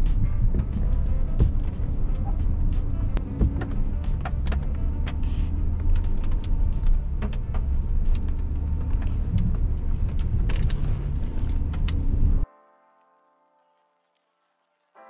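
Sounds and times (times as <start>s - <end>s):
knocks and clicks over bumps: 0.0s - 12.4s
vehicle rumbling on dirt track: 0.0s - 12.4s.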